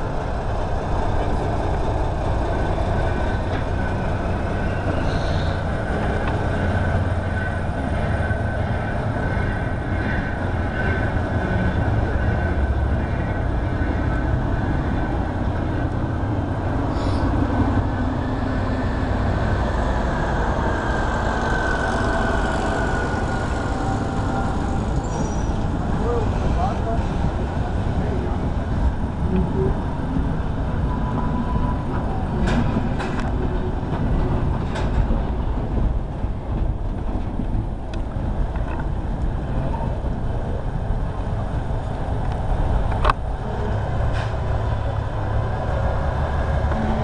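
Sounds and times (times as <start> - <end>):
railway machinery rumbling: 0.0 - 47.0.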